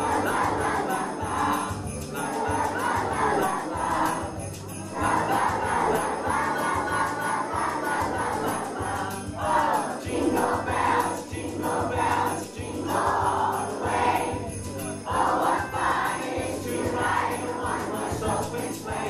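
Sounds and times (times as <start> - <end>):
music: 0.0 - 19.0
sleigh bells shaking: 0.0 - 19.0.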